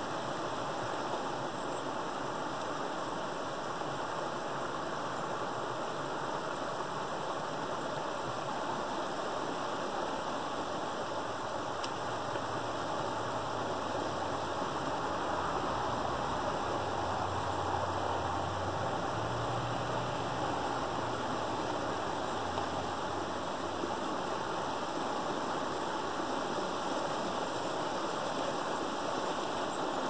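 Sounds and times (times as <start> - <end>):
small cascade pouring into creek: 0.0 - 30.0
water rushing through a dam gap: 0.0 - 30.0.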